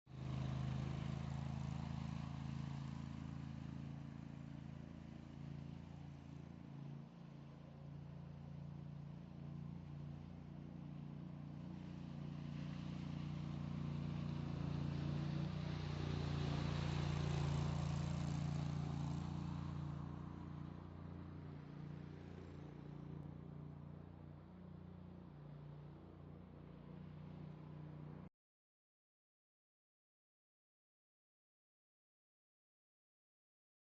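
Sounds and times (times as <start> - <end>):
power trowel engine humming: 0.1 - 28.3.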